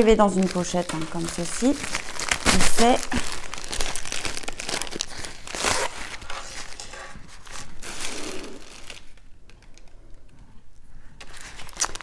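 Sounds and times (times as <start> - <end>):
plastic packaging crinkling: 0.0 - 9.9, 11.2 - 12.0.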